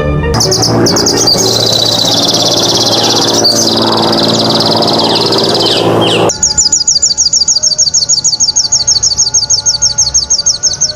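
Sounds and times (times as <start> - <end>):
sunbird buzzy trill: 0.4 - 10.9
sunbird downward-slurred notes: 0.4 - 10.9.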